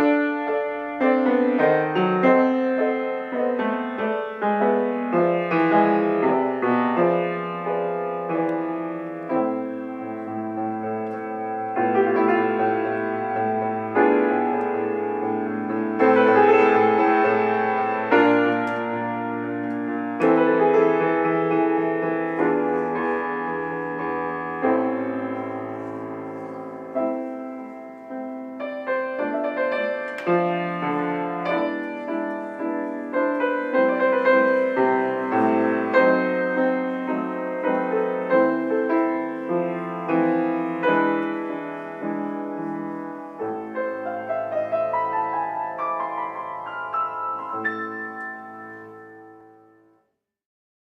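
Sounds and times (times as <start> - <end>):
solo piano piece: 0.0 - 50.2.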